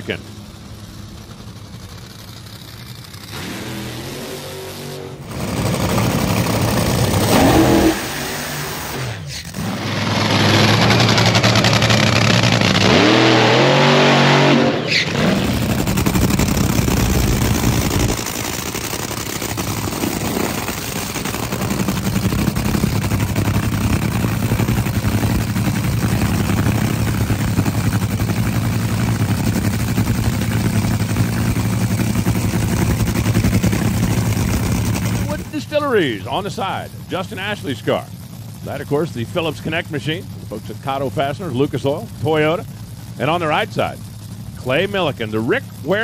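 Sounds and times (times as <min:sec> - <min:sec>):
dragster engine revving: 0:00.0 - 0:46.0.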